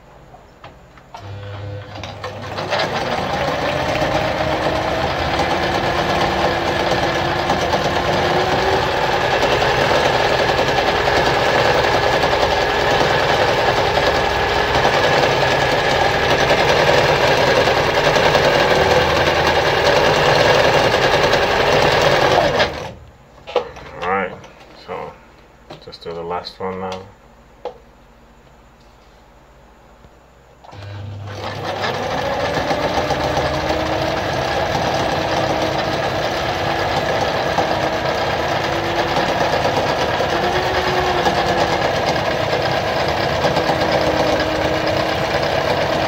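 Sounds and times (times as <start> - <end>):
sewing machine running: 1.2 - 23.0, 30.7 - 46.0.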